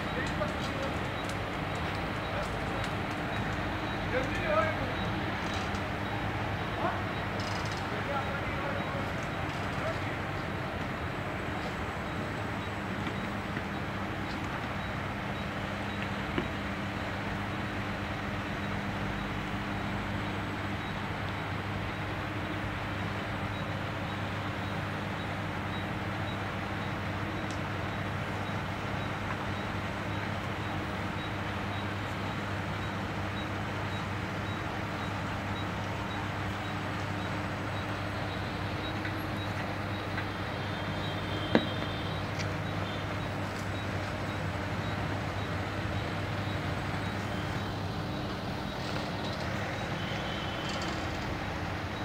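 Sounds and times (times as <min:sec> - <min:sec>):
diesel crane engine running: 0:00.0 - 0:52.0.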